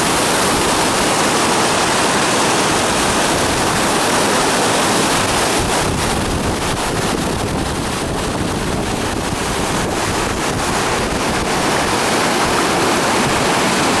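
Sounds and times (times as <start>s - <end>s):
waterfall: 0.0s - 14.0s
wind buffeting microphone: 0.0s - 14.0s.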